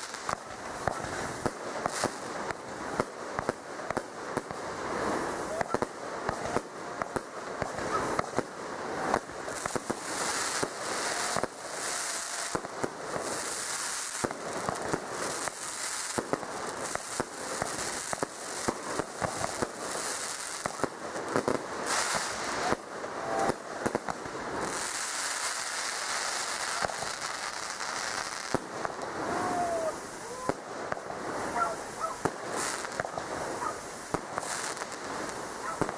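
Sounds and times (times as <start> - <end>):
fireworks bangs: 0.0 - 35.9
fireworks crackling hiss: 0.0 - 35.9.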